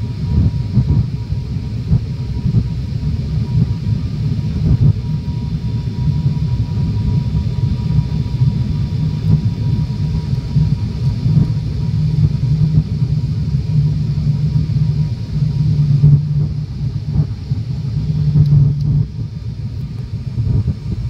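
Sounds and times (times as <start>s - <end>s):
airliner engine drone: 0.0s - 21.0s
faint thin whine: 0.0s - 21.0s.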